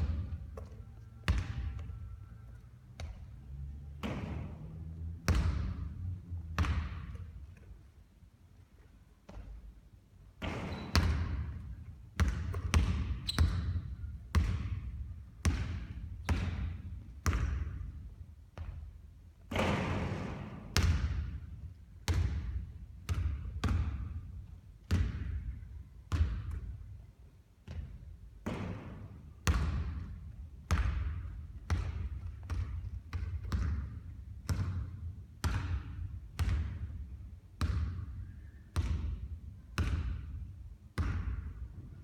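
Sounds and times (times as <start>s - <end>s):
basketball hitting court and rim: 0.0s - 1.9s, 3.0s - 3.3s, 3.9s - 7.7s, 9.3s - 9.6s, 10.4s - 24.2s, 24.8s - 26.8s, 27.6s - 38.1s, 38.8s - 41.9s.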